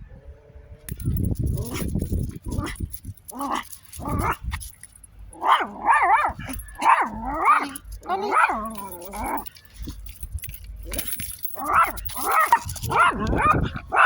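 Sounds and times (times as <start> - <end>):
dog yelping and whining: 1.5 - 4.8, 5.4 - 14.0.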